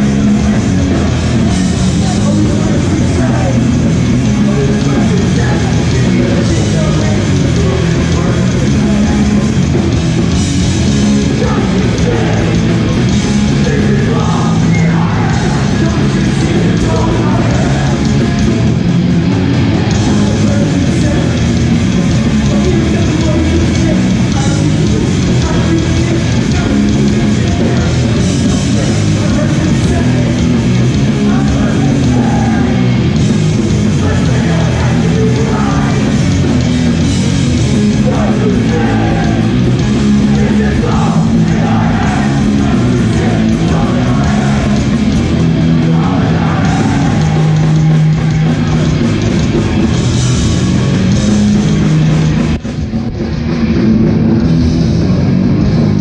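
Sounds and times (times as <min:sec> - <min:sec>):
live punk band playing: 0:00.0 - 0:56.0
punk vocals: 0:00.0 - 0:56.0.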